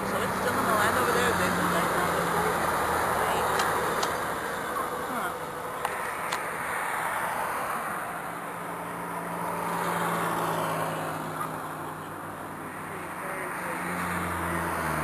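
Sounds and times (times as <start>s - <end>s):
tyre and wind road noise: 0.0s - 15.0s
vehicle passing: 0.0s - 15.0s.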